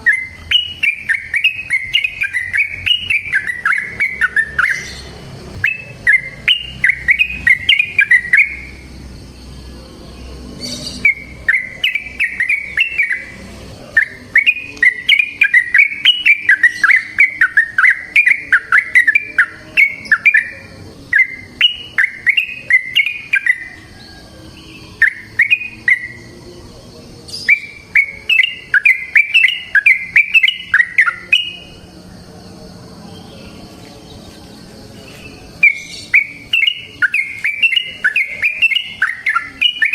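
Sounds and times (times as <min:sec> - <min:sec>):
bird singing chattering notes: 0:00.0 - 0:31.9, 0:33.2 - 0:39.9.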